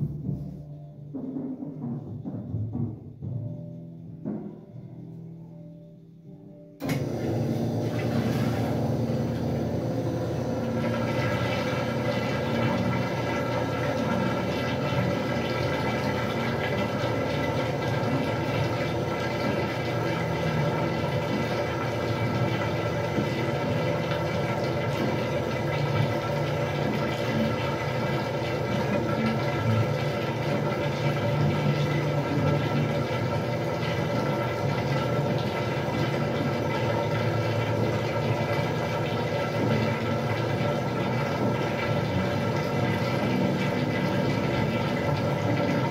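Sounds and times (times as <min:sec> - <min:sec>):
washing machine motor hum: 0:00.0 - 0:45.9
water rushing: 0:07.7 - 0:45.9.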